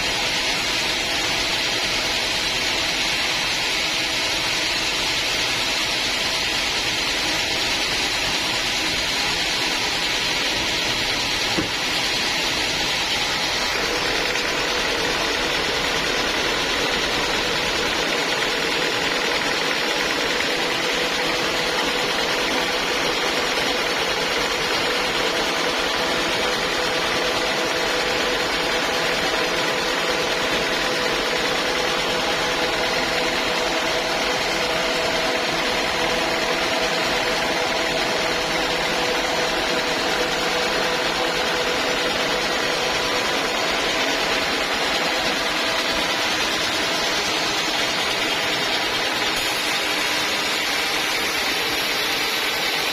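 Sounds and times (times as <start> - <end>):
sawmill machinery drone: 0.0 - 52.9.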